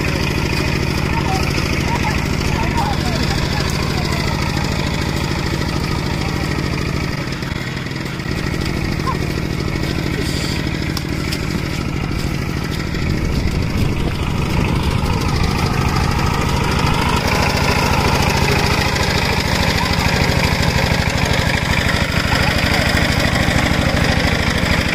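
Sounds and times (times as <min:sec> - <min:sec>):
tractor engine pulsing: 0:00.0 - 0:24.9.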